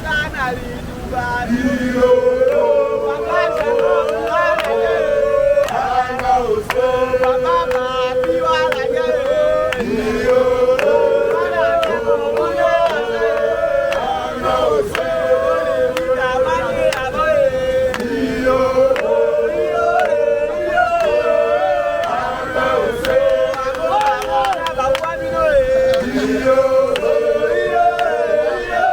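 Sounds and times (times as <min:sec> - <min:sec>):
chanted singing: 0:01.0 - 0:28.9.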